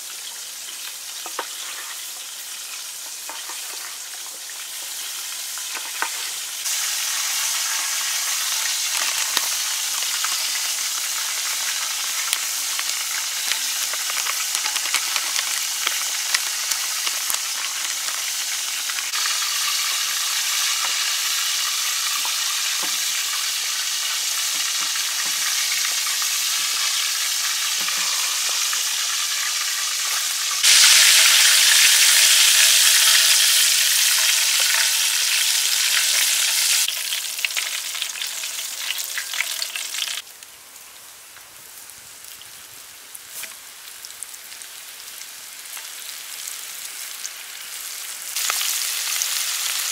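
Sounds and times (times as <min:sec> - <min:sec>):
hot oil sizzling: 0:00.0 - 0:49.9.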